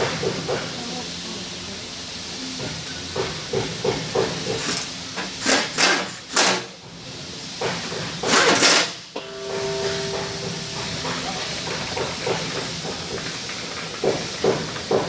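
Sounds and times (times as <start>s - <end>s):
sharp hissing bursts: 0.0s - 15.0s
steady background hiss: 0.0s - 15.0s.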